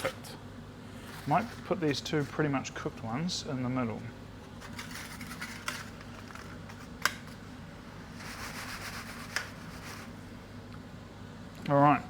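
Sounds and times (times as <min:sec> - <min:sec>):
fan hum: 0:00.0 - 0:12.0.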